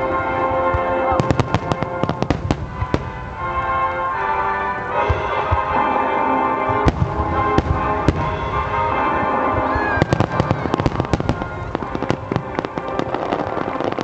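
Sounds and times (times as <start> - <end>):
fireworks bursting: 0.0 - 14.0
music playing: 0.0 - 14.0.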